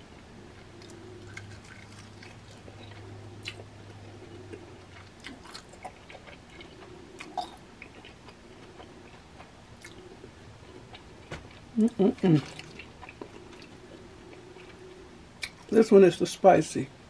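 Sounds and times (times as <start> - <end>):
chewing crispy fried chicken: 0.5 - 15.8.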